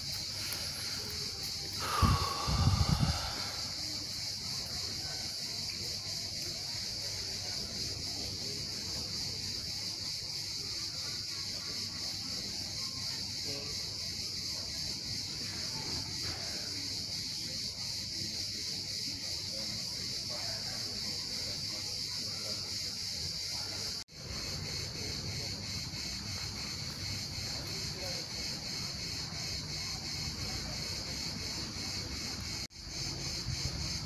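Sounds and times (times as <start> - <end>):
insect chorus shrilling: 0.0 - 34.0.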